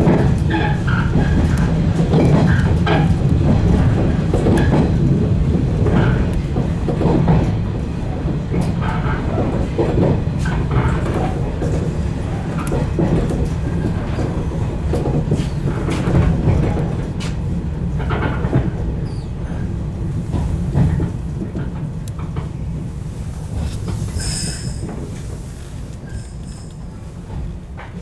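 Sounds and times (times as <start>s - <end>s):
electric train rumbling: 0.0s - 28.0s
wheels clicking over rail joints: 0.0s - 28.0s.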